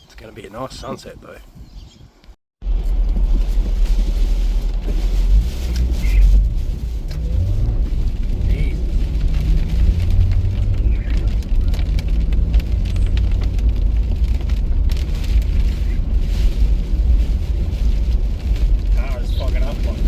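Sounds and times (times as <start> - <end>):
car driving heard from inside: 2.6 - 20.0
rain striking a car: 2.6 - 20.0.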